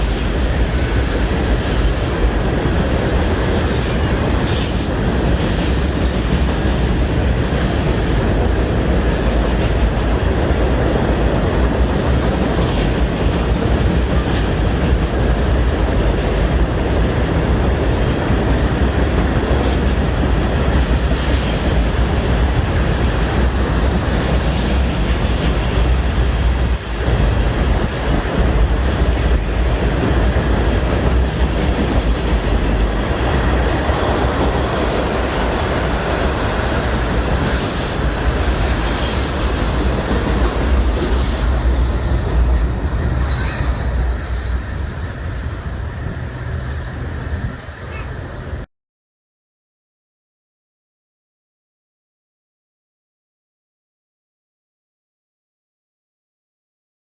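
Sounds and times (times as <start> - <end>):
freight train wheels rumbling: 0.0 - 48.7.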